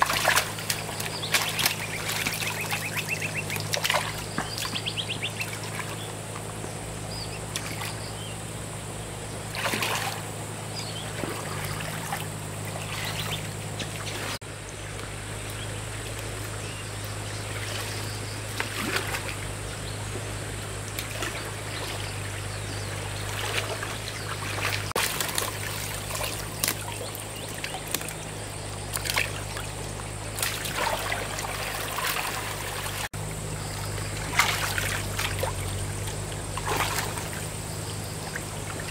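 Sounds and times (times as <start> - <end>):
steady low hum: 0.0 - 38.9
water trickling and splashing: 0.0 - 38.9.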